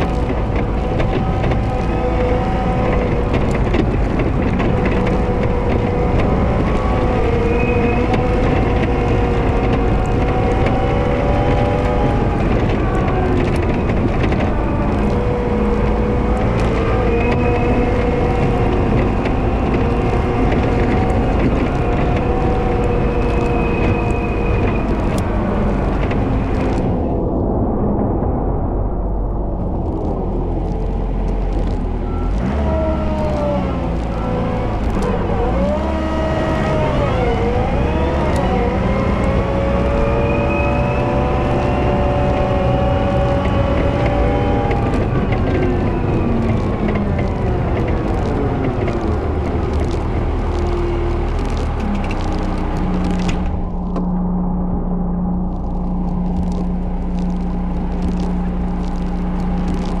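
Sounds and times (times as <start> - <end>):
scattered clicks: 0.0 - 27.0, 29.5 - 60.0
diesel engine under load: 0.0 - 60.0.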